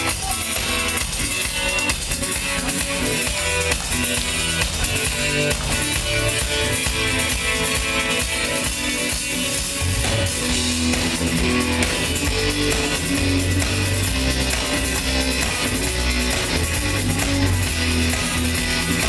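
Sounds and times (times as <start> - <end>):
bass: 0.0 - 19.0
drums: 0.0 - 19.0
electric guitar: 0.0 - 19.0.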